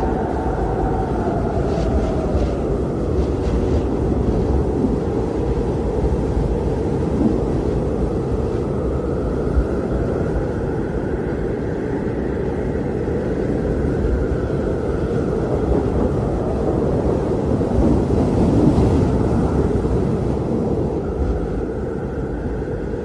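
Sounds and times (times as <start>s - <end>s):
blizzard wind howling: 0.0s - 23.0s.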